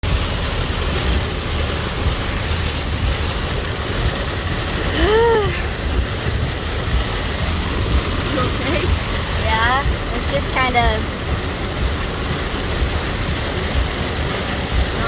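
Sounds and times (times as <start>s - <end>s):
car engine and tyres on wet road: 0.0s - 15.0s
rain hissing: 0.0s - 15.0s.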